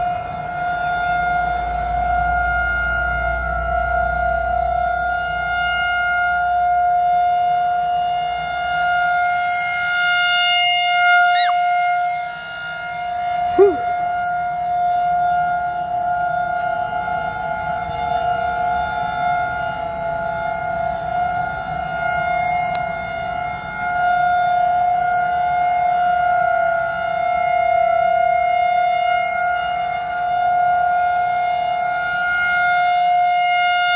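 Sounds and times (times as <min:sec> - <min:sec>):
sweeping siren chirp: 0:00.0 - 0:33.9
warning siren steady tone: 0:00.0 - 0:33.9.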